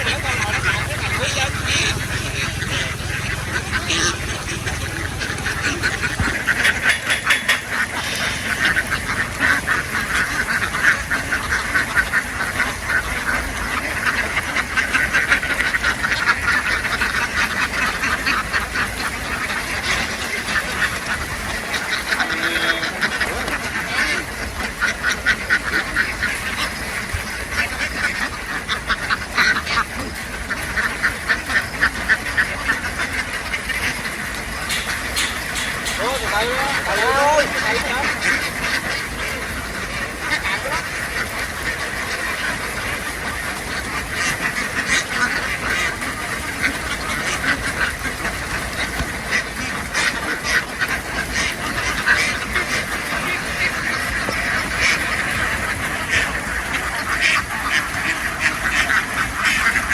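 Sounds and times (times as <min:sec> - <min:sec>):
ducks quacking: 0:00.0 - 0:59.9.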